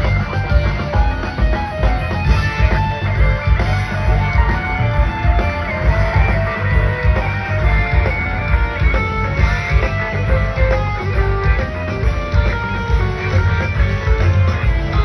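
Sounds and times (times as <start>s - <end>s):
bass guitar: 0.0s - 15.0s
electric guitar lead lines: 0.0s - 15.0s
steady drum beat: 0.0s - 15.0s.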